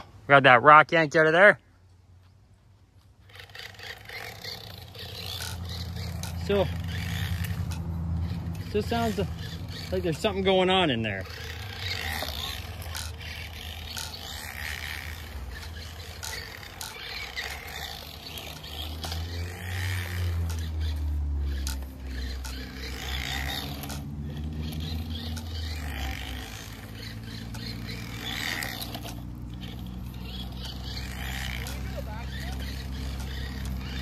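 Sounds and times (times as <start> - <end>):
rc car electric motor whining: 3.2 - 34.0.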